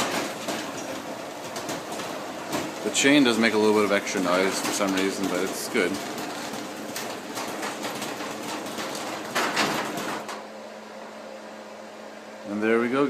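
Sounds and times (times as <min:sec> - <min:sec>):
garage door opener running: 0:00.0 - 0:12.7.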